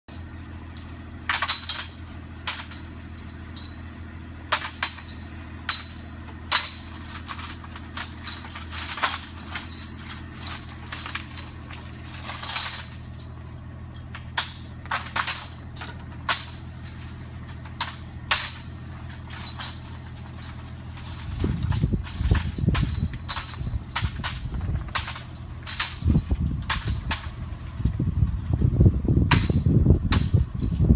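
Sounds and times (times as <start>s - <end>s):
low engine hum: 0.0s - 30.9s
metal pipes clanking and jingling: 0.1s - 30.9s.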